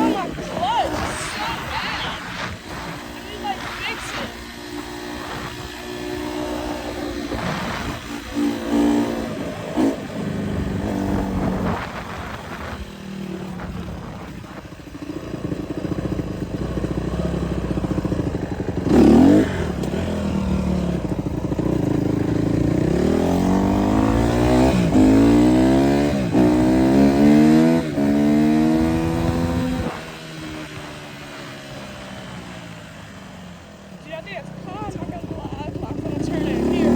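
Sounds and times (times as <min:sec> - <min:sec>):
dirt bike engine revving: 0:00.0 - 0:33.3, 0:34.0 - 0:36.9.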